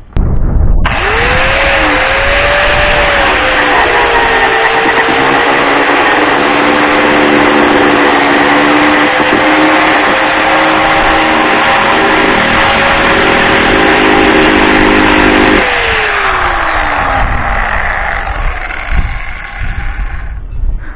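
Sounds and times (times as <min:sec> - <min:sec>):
cut-off tool grinding metal: 0:00.9 - 0:20.9
cut-off tool spinning down: 0:00.9 - 0:20.9.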